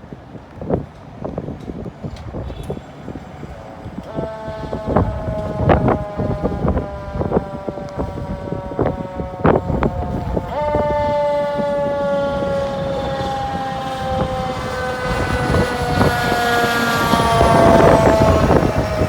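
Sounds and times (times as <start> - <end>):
fire engine siren wailing: 3.0 - 19.0
truck rumbling past: 3.3 - 19.0.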